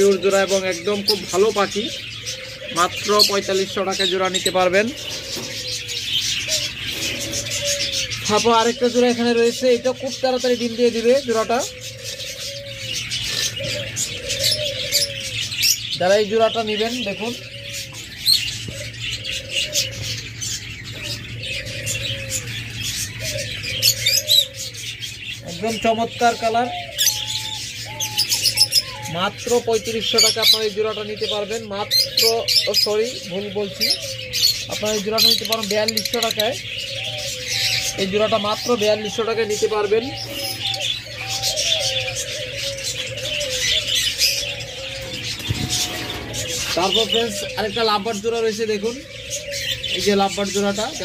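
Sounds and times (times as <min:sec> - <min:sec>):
dove cooing: 0:00.0 - 0:51.0
small cage birds chirping: 0:00.0 - 0:51.0.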